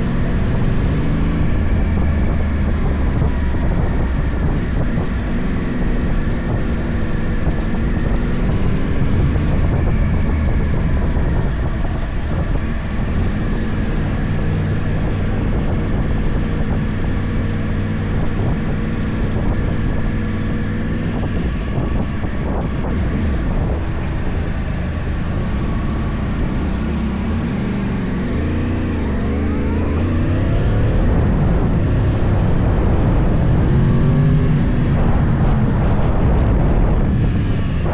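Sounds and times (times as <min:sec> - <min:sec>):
motorcycle engine running: 0:00.0 - 0:37.9
wind noise on microphone: 0:00.0 - 0:37.9.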